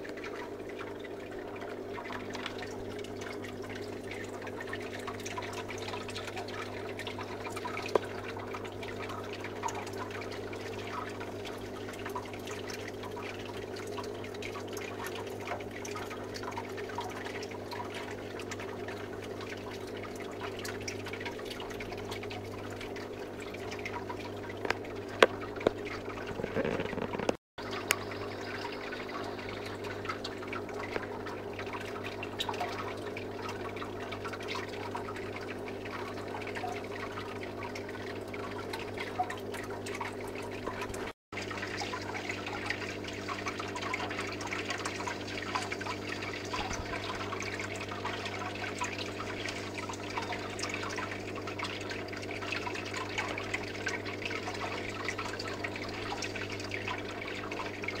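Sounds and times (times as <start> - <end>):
aquarium pump hum: 0.0 - 58.0
water trickling and bubbling: 0.0 - 58.0.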